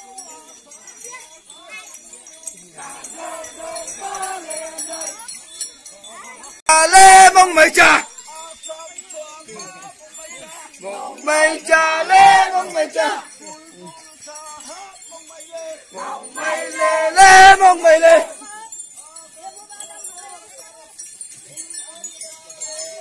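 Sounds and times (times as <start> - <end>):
quieter voices: 0.0 - 23.0
men chanting and shouting: 2.2 - 5.4, 6.0 - 23.0.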